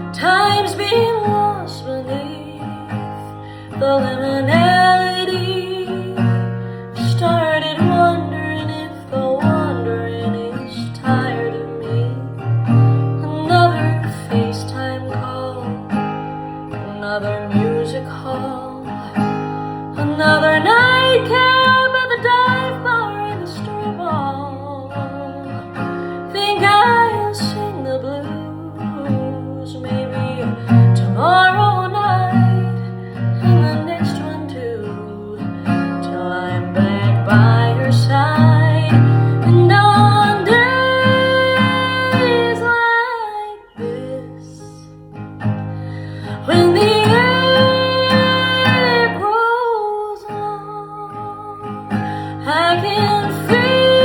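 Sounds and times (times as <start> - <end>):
strummed acoustic guitar: 0.0 - 54.0
woman singing folk-country song: 0.0 - 54.0.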